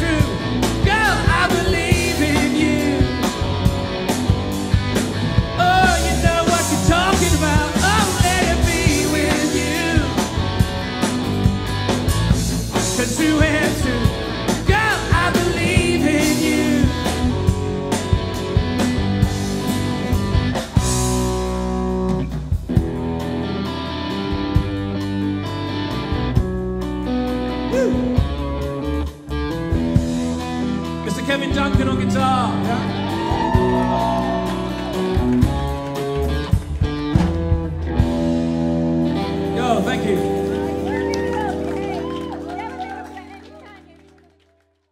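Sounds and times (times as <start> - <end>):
rock band playing live: 0.0 - 44.0
electric guitar lead with bent notes: 0.0 - 44.2.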